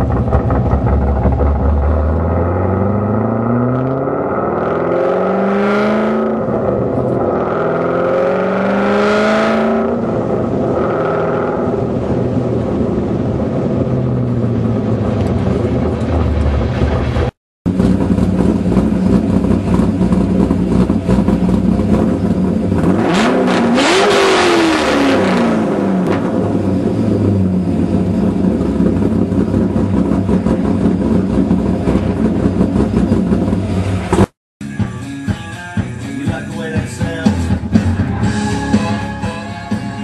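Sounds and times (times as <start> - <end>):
car engine revving: 0.0 - 34.4.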